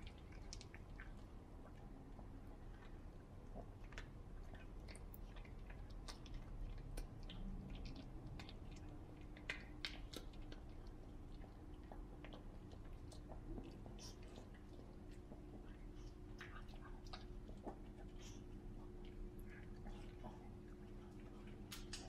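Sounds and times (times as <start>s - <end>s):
dog chewing crunchy treat: 0.0s - 22.0s.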